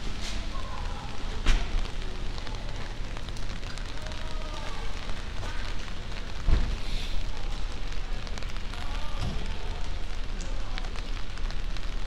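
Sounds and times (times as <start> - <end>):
rain hissing on wet pavement: 0.0 - 12.0.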